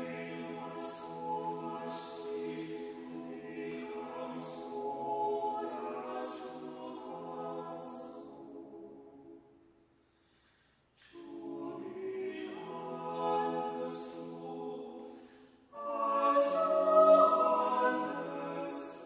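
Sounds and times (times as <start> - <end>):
a cappella quartet singing: 0.0 - 9.6, 11.0 - 19.0.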